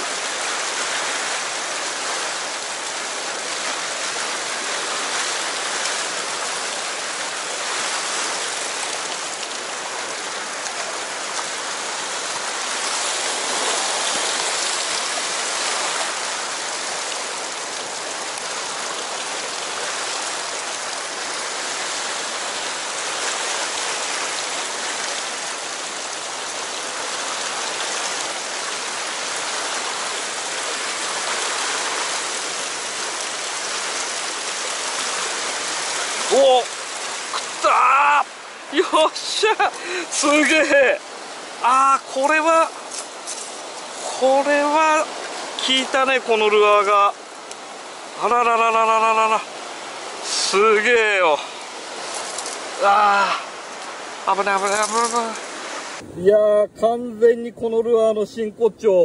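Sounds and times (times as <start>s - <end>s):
river rushing through rapids: 0.0s - 56.3s.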